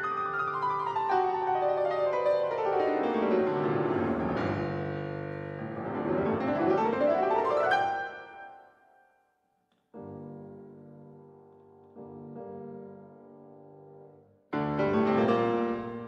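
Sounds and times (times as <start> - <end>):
piano music: 0.0 - 8.9, 12.0 - 16.0.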